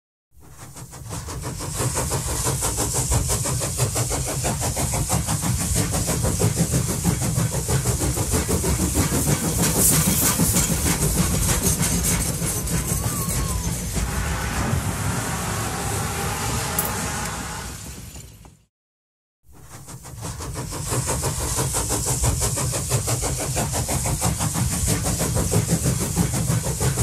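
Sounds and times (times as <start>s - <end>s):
small locomotive engine chugging: 0.3s - 18.6s, 19.5s - 27.0s.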